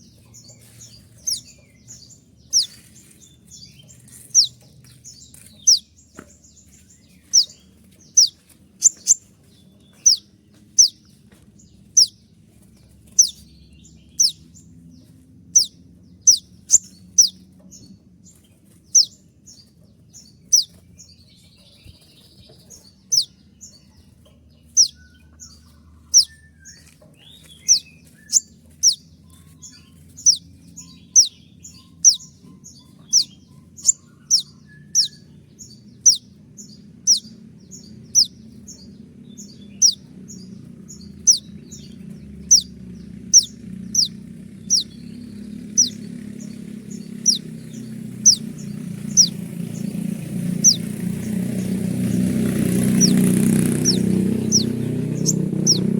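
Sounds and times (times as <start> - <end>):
small bird chipping calls: 0.0 - 55.9.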